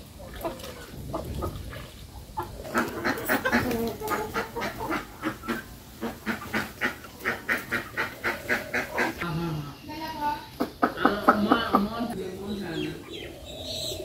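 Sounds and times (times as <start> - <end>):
ducks quacking: 0.0 - 9.5, 10.2 - 14.0.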